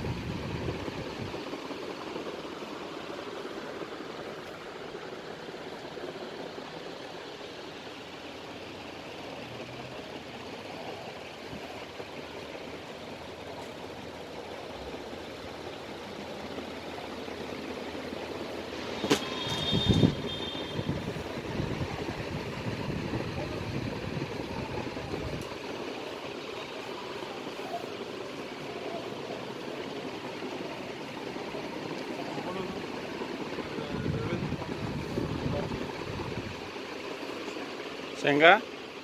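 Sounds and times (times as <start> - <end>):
background rumble and hiss: 0.0 - 39.0.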